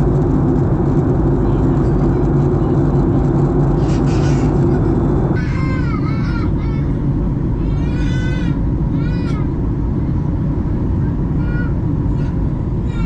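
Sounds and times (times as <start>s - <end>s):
low aircraft cabin rumble: 0.0s - 13.0s.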